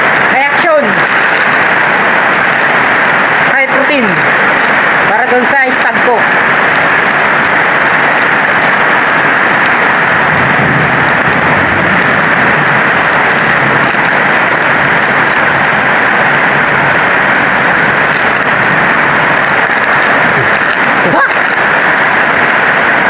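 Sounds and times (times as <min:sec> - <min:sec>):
heavy rain on a metal roof: 0:00.0 - 0:23.0.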